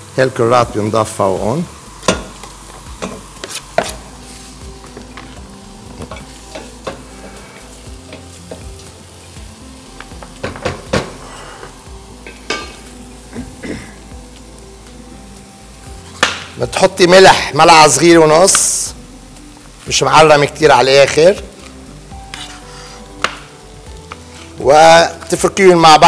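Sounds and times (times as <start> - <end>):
onions sizzling in pot: 0.0 - 26.0.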